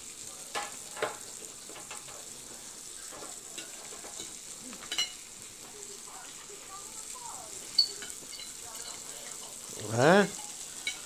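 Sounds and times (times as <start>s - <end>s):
grill sizzling: 0.0s - 11.0s.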